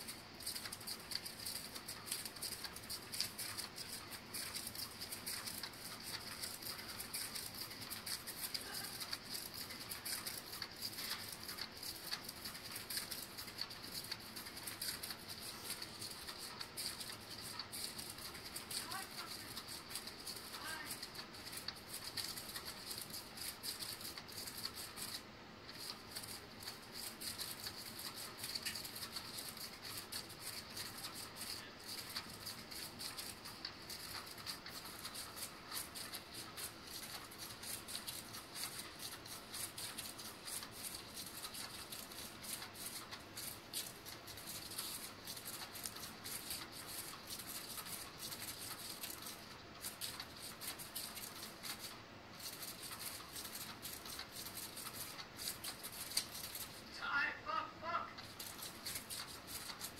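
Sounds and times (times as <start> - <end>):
cat toy rattling and clicking: 0.0 - 56.9, 57.9 - 59.9.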